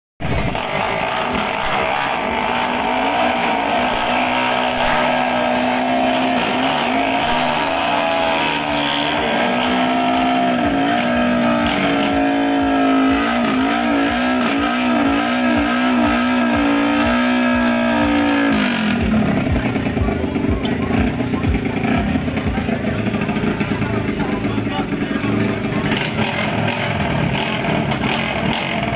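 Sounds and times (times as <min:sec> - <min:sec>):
motorcycle engines revving: 0:00.2 - 0:28.9.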